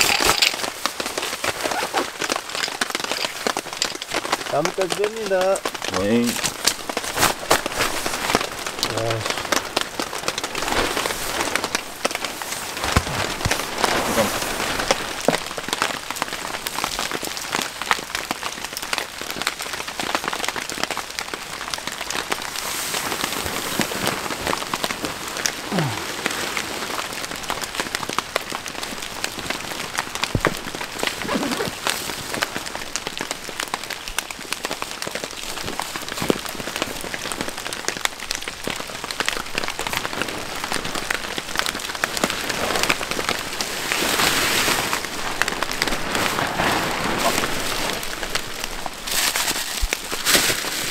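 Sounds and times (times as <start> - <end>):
heavy rain falling: 0.0 - 50.9
raindrops spattering close by: 0.0 - 50.9.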